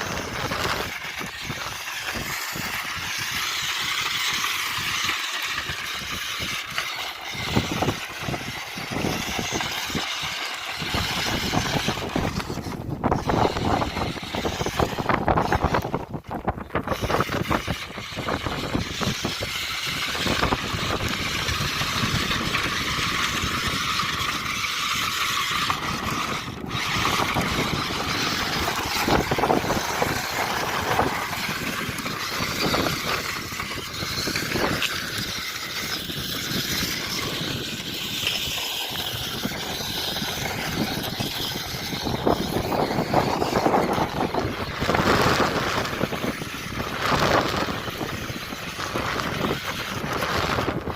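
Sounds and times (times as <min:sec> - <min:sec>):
toy truck motors running: 0:00.0 - 0:50.9
tyres churning over ground: 0:00.0 - 0:50.9.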